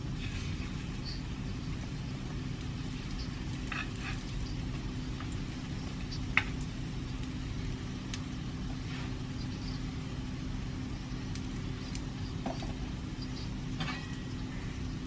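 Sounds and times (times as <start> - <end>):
range hood fan humming: 0.0 - 15.0.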